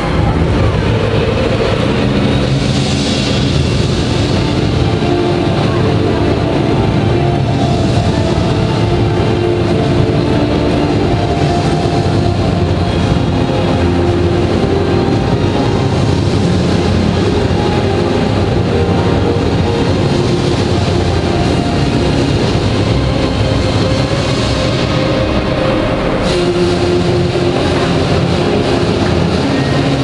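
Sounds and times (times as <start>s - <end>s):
music over loudspeakers: 0.0s - 30.0s.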